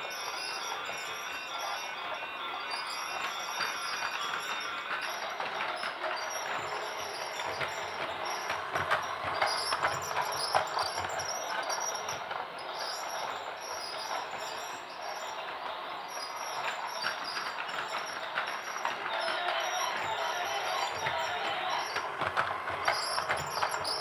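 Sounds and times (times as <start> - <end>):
toy train clicks: 0.0 - 24.0
toy train rattling: 0.0 - 24.0.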